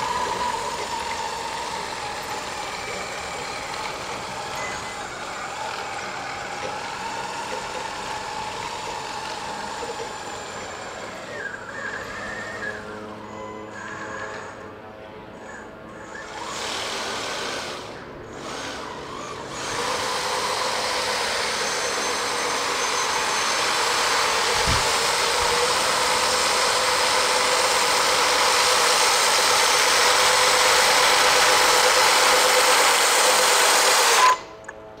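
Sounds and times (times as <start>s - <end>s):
tracked toy vehicle motors whining: 0.0s - 35.0s.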